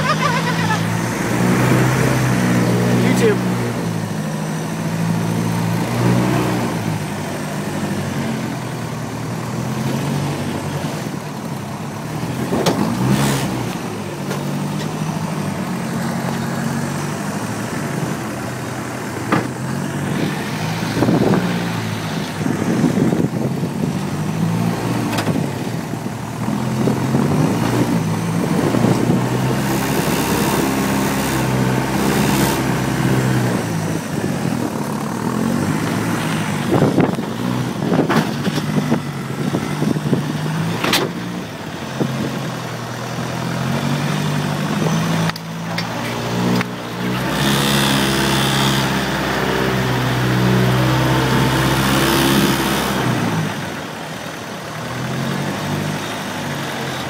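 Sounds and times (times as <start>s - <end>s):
buggy engine running: 0.0s - 57.0s.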